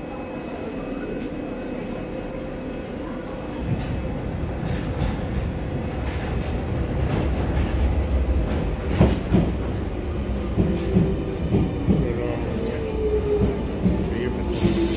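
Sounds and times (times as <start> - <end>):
train rumble: 0.0 - 14.9.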